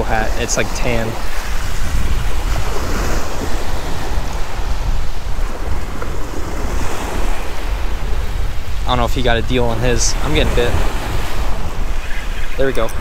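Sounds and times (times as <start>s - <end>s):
waves lapping on shore: 0.0s - 13.0s
wind on microphone: 0.0s - 13.0s.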